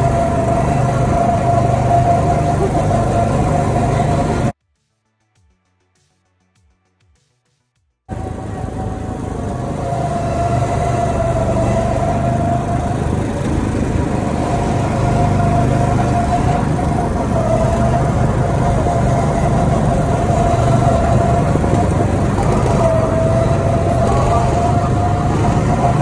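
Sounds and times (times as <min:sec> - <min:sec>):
go-kart motor droning: 0:00.0 - 0:04.6, 0:08.1 - 0:26.0
high motor whine: 0:00.0 - 0:04.6, 0:08.1 - 0:26.0.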